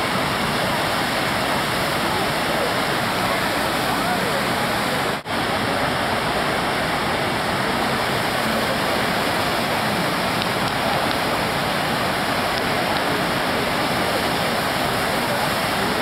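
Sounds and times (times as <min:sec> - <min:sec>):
steady rush of water: 0:00.0 - 0:16.0.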